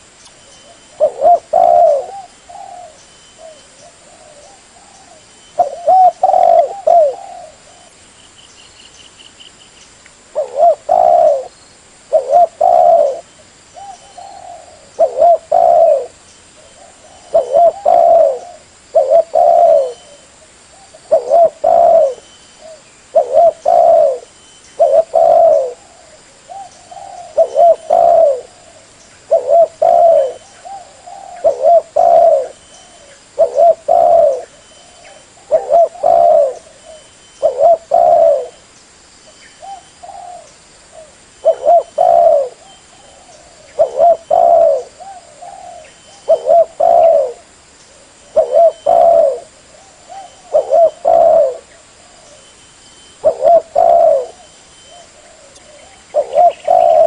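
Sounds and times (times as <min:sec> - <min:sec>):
dove cooing: 0:00.0 - 0:08.0, 0:10.2 - 0:38.6, 0:39.6 - 0:57.0.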